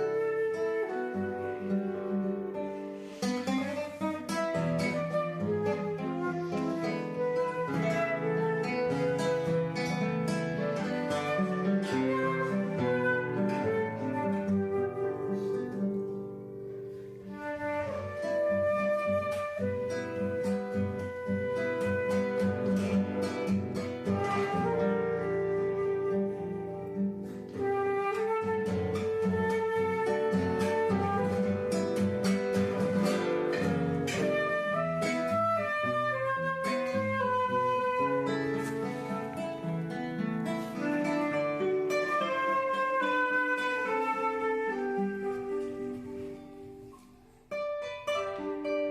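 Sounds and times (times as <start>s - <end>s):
acoustic guitar playing: 0.0s - 48.9s.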